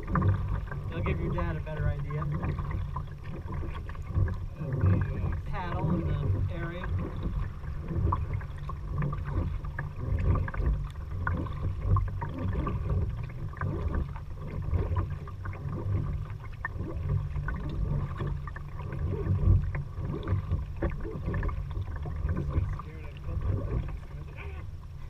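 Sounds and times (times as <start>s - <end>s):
kayak paddle splashing water: 0.0s - 25.0s
water trickling: 0.0s - 25.0s.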